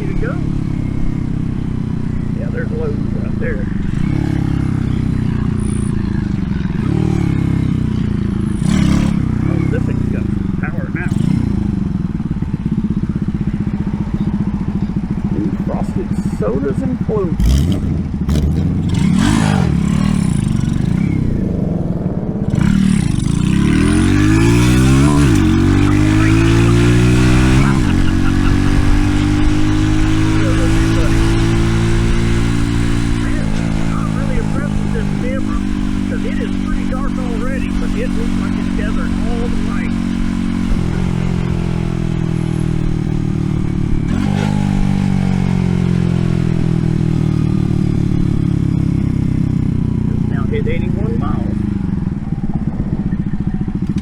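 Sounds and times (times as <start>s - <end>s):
mini bike engine revving: 0.0s - 21.6s, 22.3s - 54.0s.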